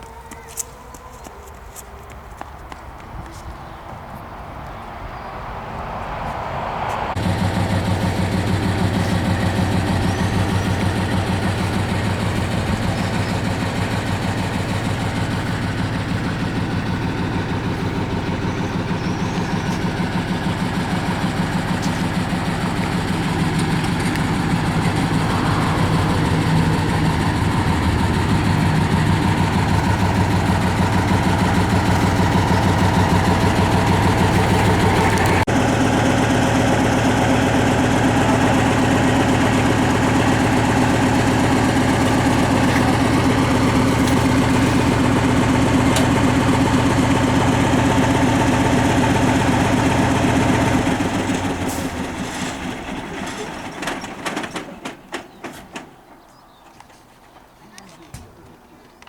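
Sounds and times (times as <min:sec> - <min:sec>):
engine idling: 0:07.2 - 0:56.0.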